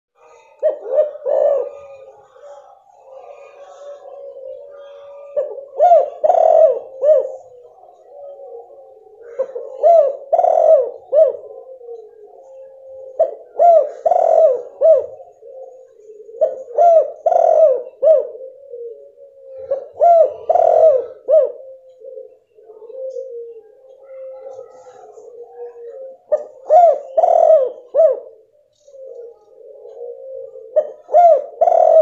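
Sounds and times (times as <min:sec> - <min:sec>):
dove cooing: 0:00.2 - 0:32.0.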